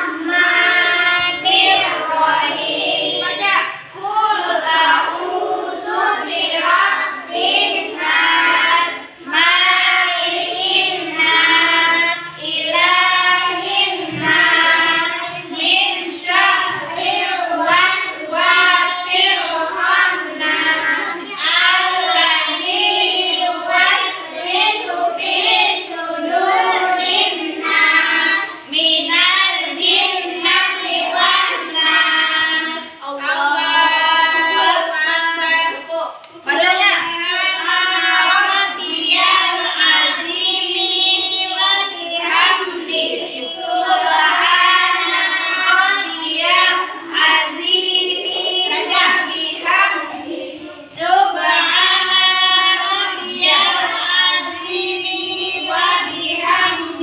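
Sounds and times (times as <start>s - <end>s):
children chanting prayer in unison: 0.0s - 57.0s.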